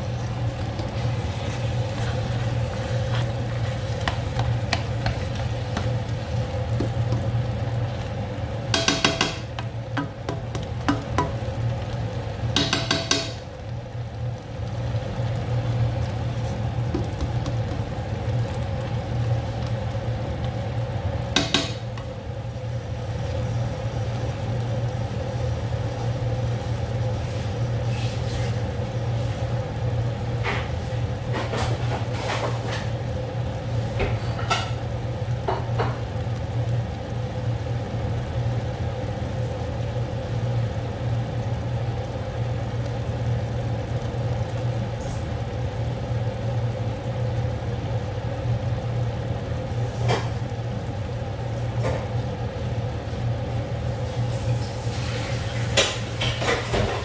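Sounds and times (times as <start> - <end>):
sauce simmering with soft pops: 0.0 - 56.9
low kitchen hum: 0.0 - 57.0.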